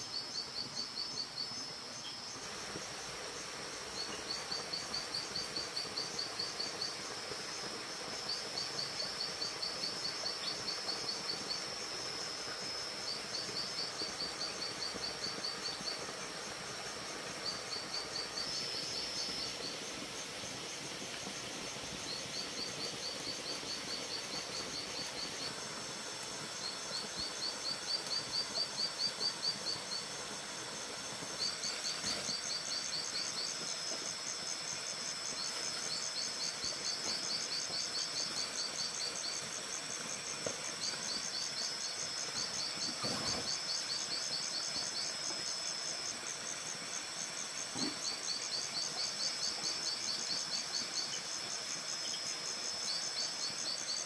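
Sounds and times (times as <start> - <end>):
faint steady hiss: 0.0 - 54.0
insects chirping in trills: 0.0 - 54.0.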